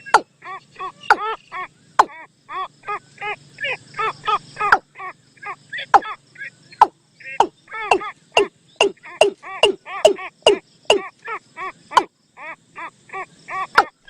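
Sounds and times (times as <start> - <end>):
short downward bird calls: 0.0 - 14.0.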